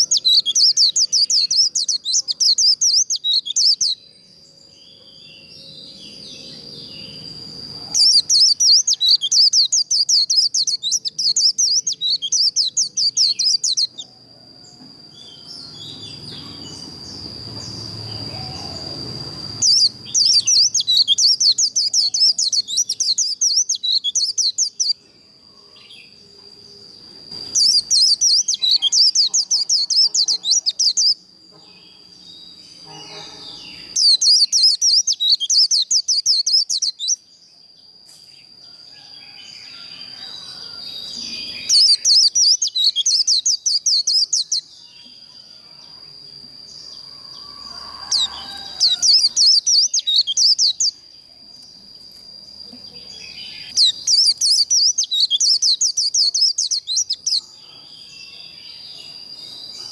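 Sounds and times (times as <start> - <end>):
bird twittering song: 0.0 - 25.1, 25.7 - 59.9.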